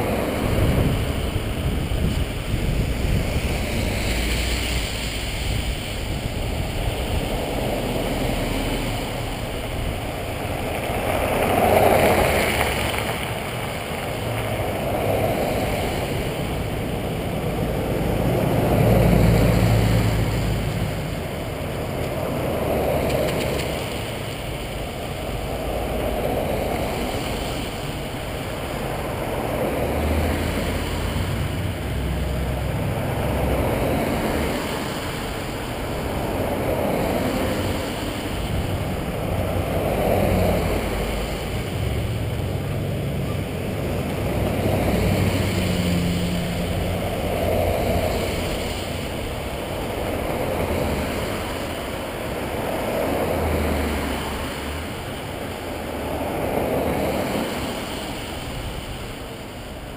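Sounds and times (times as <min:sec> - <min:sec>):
vehicles passing: 0:00.0 - 0:59.9
wind rumbling on microphone: 0:00.0 - 0:59.9.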